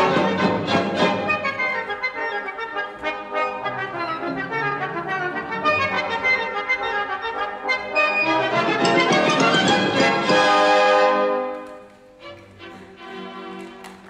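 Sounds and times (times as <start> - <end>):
orchestral music with brass melody: 0.0 - 11.6.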